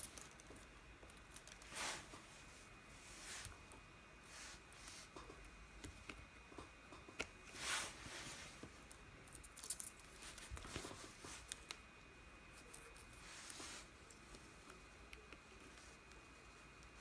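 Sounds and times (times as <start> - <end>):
faint steady high whine: 0.0 - 17.0.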